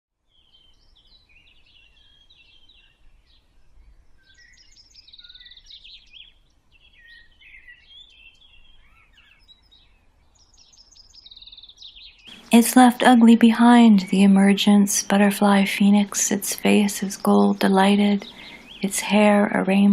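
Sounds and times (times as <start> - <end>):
small birds chirping and singing: 0.3 - 19.9.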